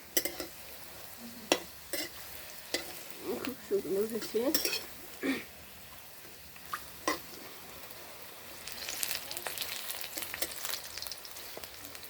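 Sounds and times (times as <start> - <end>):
fritters frying in hot oil: 0.0 - 12.0.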